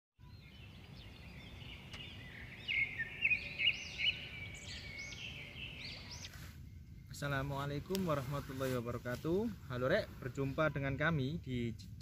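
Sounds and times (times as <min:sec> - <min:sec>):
birds chirping: 0:00.2 - 0:11.2.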